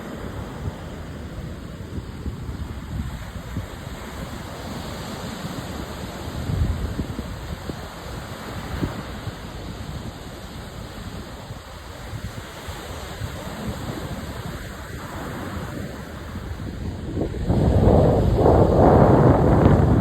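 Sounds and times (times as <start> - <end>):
ocean surf washing ashore: 0.0 - 20.0
wind buffeting microphone: 0.0 - 20.0.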